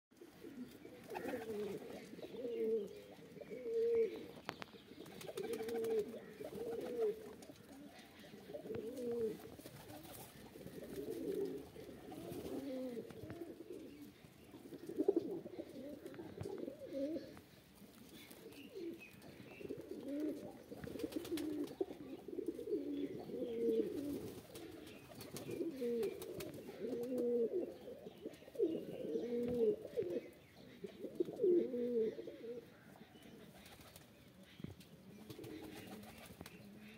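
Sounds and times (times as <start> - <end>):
pigeons cooing: 0.2 - 36.9.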